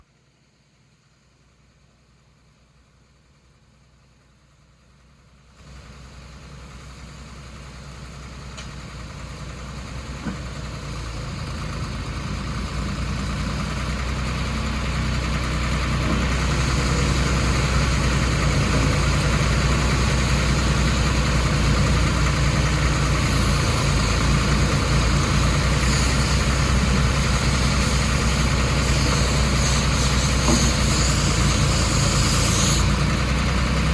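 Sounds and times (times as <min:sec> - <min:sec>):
trencher engine idling: 0:02.7 - 0:33.9.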